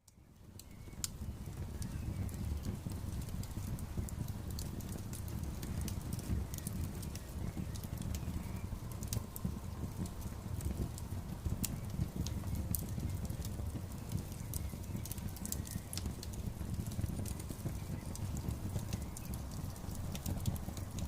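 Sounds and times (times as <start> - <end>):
fire crackling and popping: 0.1 - 21.0
low rumble of flames: 0.1 - 21.0.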